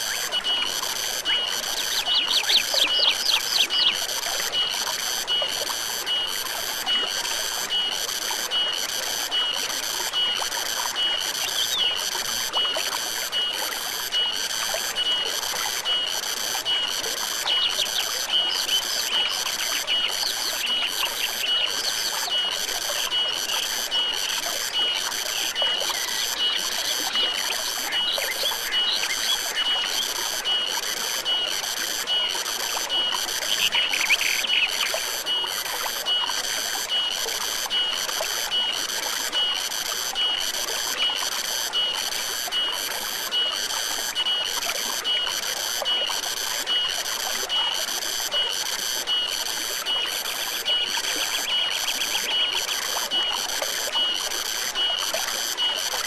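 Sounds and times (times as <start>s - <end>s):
insects buzzing: 0.0s - 56.0s
stream water flowing: 0.0s - 56.0s.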